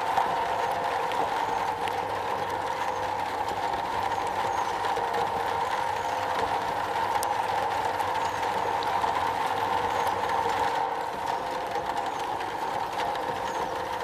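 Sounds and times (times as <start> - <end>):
rain on a metal roof: 0.0 - 14.0.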